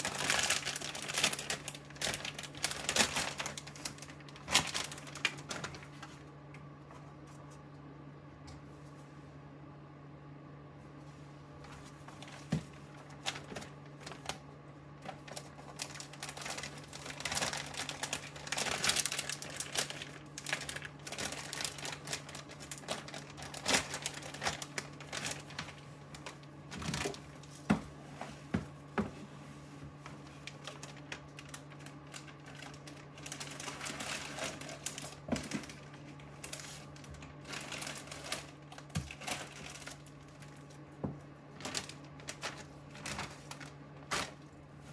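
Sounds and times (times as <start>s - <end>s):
plastic bags crinkling: 0.0s - 6.4s, 11.7s - 28.0s, 29.8s - 44.9s
steady low hum: 0.0s - 44.9s.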